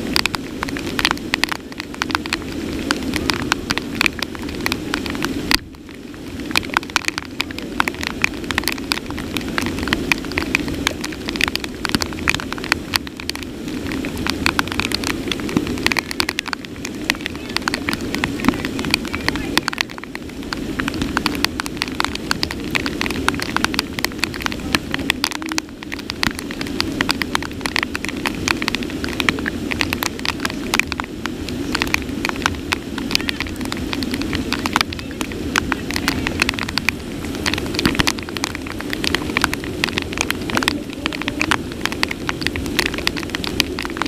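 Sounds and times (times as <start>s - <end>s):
heavy rain hissing: 0.0s - 44.0s
raindrops tapping near microphone: 0.0s - 44.0s.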